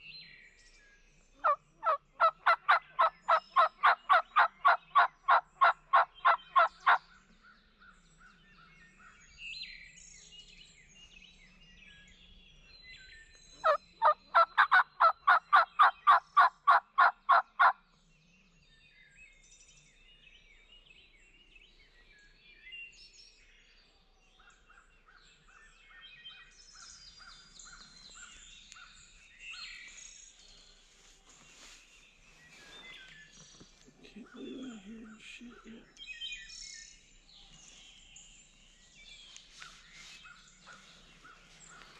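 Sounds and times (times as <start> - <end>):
faint songbird chirps: 0.0 - 41.9.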